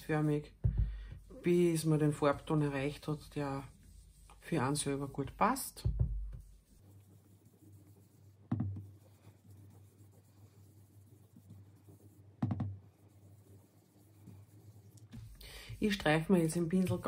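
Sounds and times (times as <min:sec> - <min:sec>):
brush rubbing on paper: 0:00.0 - 0:17.0.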